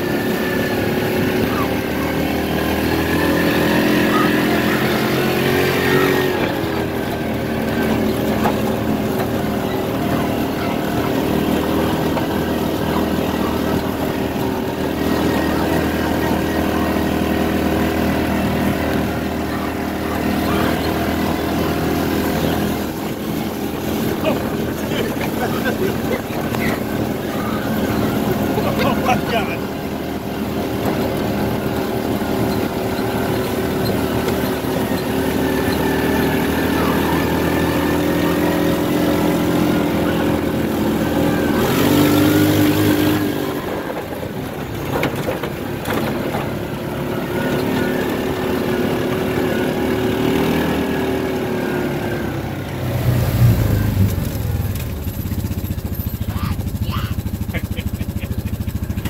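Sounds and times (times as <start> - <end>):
low engine rumble: 0.0 - 50.3, 51.8 - 59.0
small vehicle engine running: 0.0 - 59.0.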